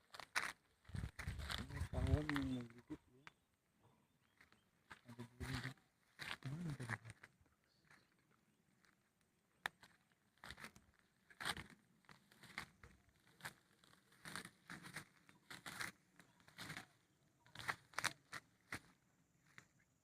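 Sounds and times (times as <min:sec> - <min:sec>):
crackling rustles: 0:00.0 - 0:03.3, 0:04.3 - 0:19.8.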